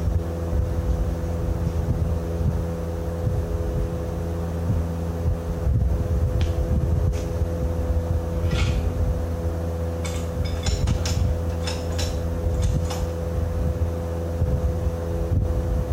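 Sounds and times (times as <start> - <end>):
engine running steadily: 0.0 - 15.9.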